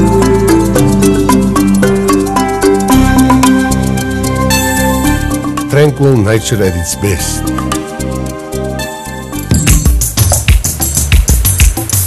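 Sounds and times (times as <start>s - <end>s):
calm new-age music: 0.0s - 12.0s.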